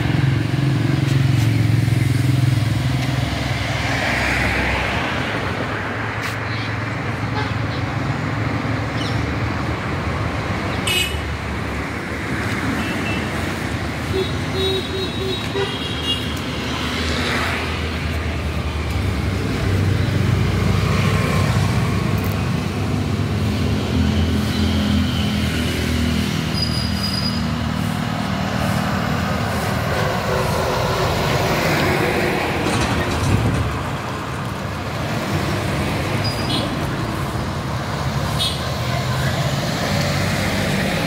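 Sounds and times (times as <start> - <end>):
road rumble: 0.0 - 41.0
vehicles passing: 0.0 - 41.0.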